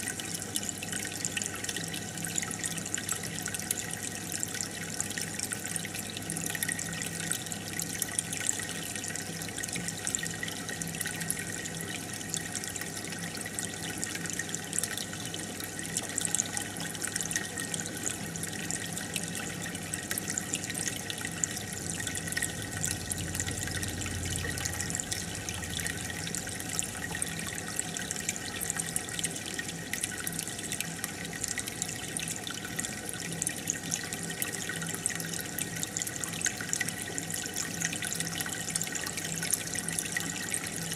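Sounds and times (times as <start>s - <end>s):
aquarium water bubbling: 0.0s - 40.9s
low steady hum: 0.0s - 40.9s.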